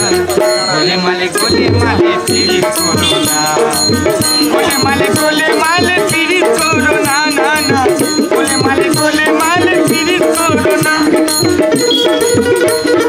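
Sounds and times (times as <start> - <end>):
voices singing: 0.0 - 11.5
jingling hand percussion: 0.0 - 13.0
plucked string instrument: 0.0 - 13.0.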